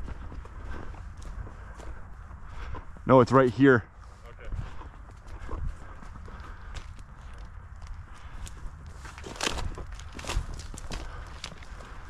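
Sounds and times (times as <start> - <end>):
crackling stems: 0.0 - 12.0
footsteps through dry weeds: 0.0 - 12.0.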